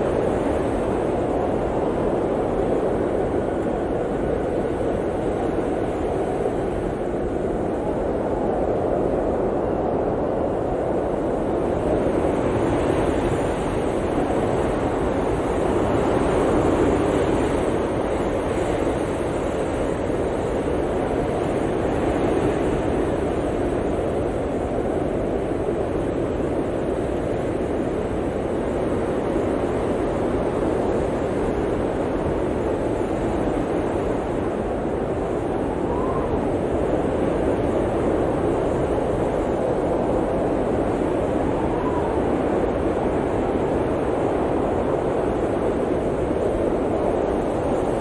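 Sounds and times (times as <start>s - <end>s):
blizzard wind blowing hard: 0.0s - 48.0s.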